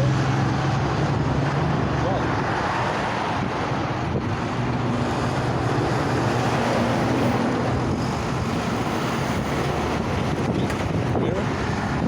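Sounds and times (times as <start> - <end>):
engine rumble: 0.0 - 12.0
wind buffeting microphone: 0.0 - 12.0.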